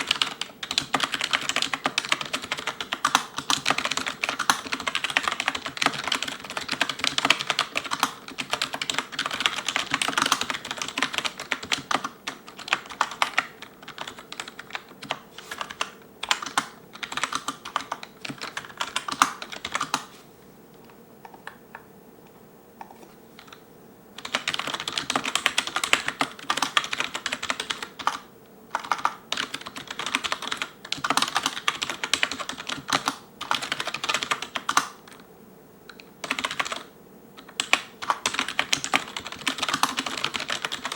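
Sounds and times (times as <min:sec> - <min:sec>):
fast typing on a keyboard: 0:00.0 - 0:20.1, 0:24.2 - 0:35.2, 0:35.9 - 0:40.9.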